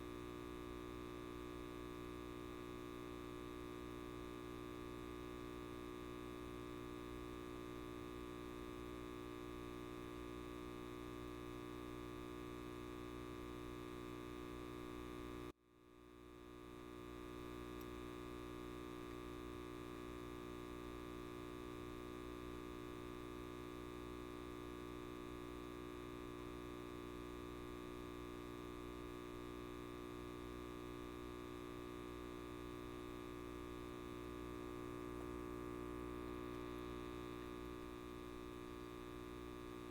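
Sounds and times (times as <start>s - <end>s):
light bulb electrical hum: 0.0s - 39.9s.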